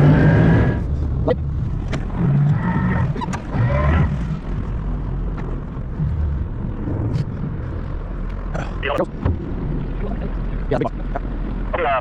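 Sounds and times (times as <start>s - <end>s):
diesel machinery droning: 0.0s - 12.0s.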